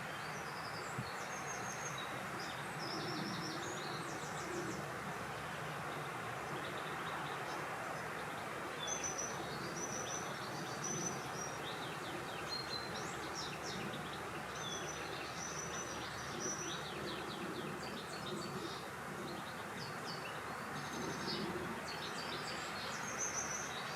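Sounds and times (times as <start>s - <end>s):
small birds calling: 0.0s - 23.9s.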